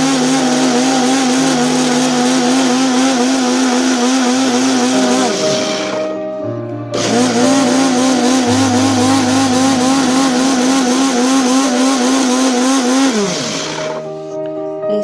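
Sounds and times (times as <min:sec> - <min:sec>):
electric blender whining: 0:00.0 - 0:14.3.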